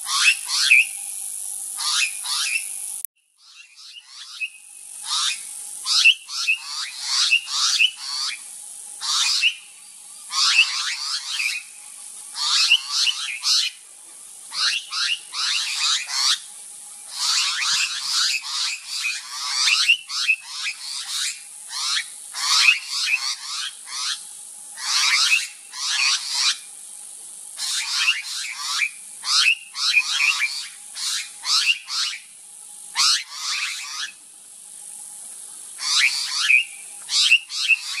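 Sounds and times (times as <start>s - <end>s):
birds harsh raspy calls: 0.0s - 1.0s, 1.7s - 2.8s, 3.4s - 11.7s, 12.3s - 13.8s, 14.5s - 16.5s, 17.1s - 24.2s, 24.8s - 26.6s, 27.6s - 32.3s, 32.9s - 34.2s, 35.8s - 38.0s
steady high hiss: 0.0s - 38.0s.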